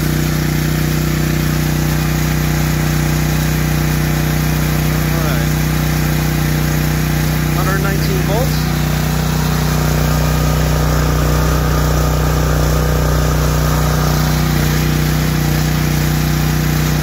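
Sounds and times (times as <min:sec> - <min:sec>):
generator engine running steadily: 0:00.0 - 0:17.0.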